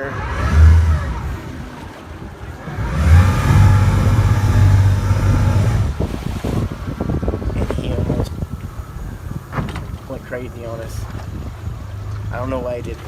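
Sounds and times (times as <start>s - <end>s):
motorboat engine revving: 0.0s - 13.0s
water noise: 0.0s - 13.0s
wind: 0.0s - 13.0s.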